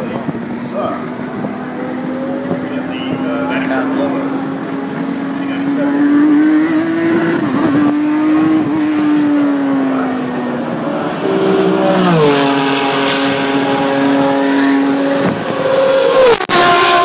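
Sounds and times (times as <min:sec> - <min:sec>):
racing car engine at high revs: 0:00.0 - 0:17.0.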